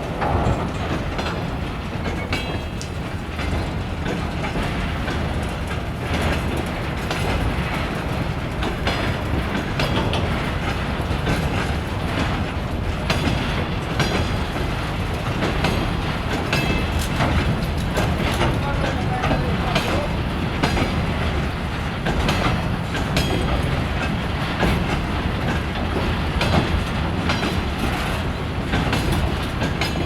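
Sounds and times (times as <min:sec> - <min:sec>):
train rumble: 0:00.0 - 0:30.0
train wheels clicking over rail joints: 0:00.0 - 0:30.0.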